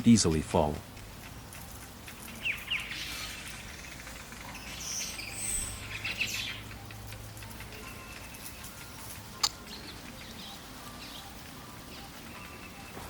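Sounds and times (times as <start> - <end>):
weaver birds calling: 1.4 - 13.0.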